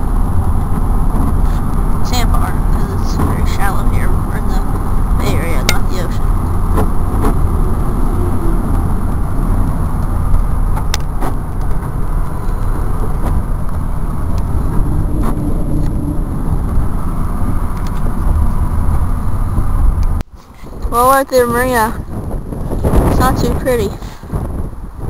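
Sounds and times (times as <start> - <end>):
car driving at road speed: 0.0 - 25.0.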